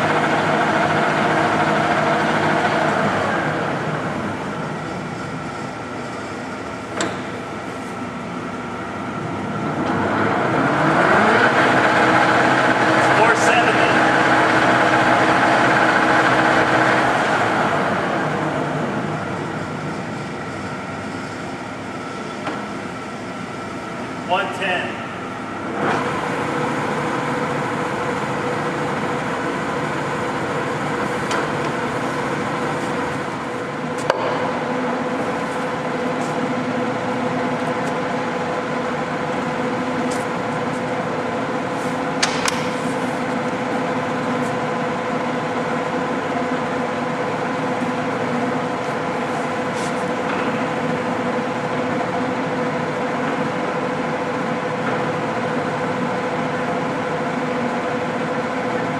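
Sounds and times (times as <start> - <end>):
lathe mechanical hum: 0.0 - 58.9.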